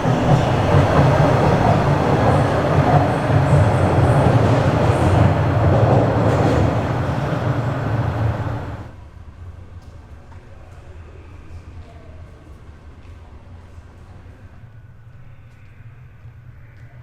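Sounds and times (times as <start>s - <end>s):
subway train rumbling: 0.0s - 16.7s.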